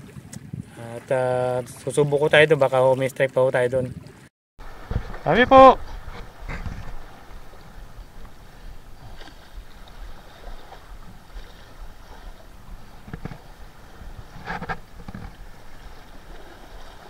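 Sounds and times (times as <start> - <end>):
wind rumble on microphone: 0.0 - 0.8, 3.8 - 17.0
waves lapping against rocks: 0.0 - 17.0.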